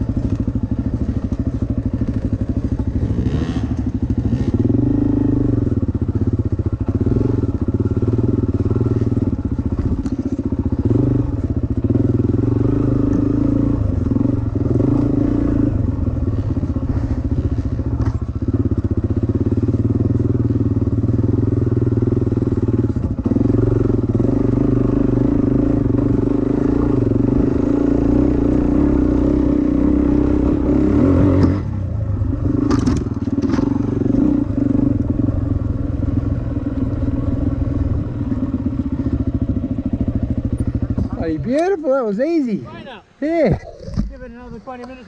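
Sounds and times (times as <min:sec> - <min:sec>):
dirt bike engine running: 0:00.0 - 0:45.0.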